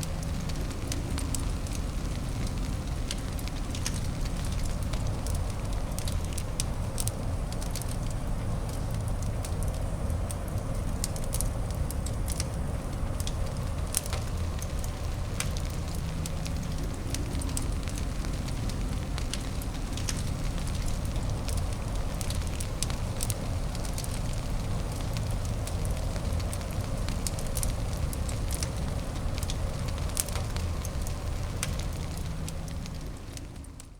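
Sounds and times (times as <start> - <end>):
fire crackling and popping: 0.0 - 33.9.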